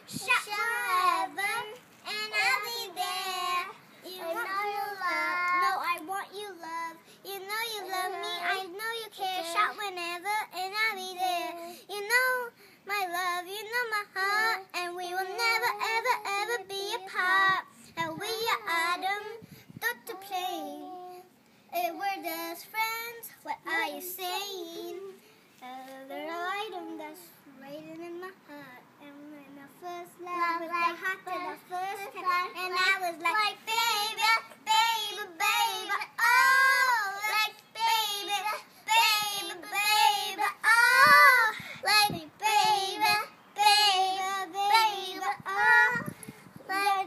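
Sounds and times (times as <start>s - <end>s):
girls singing unaccompanied: 0.0s - 47.0s.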